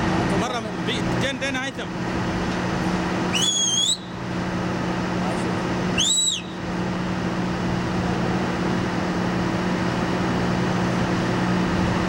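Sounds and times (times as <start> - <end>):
drilling rig drone: 0.0 - 12.0.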